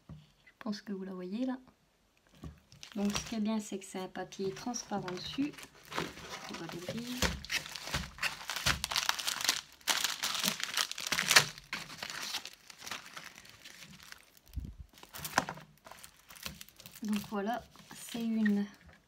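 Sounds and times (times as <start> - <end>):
paper and film crinkling: 2.6 - 18.8.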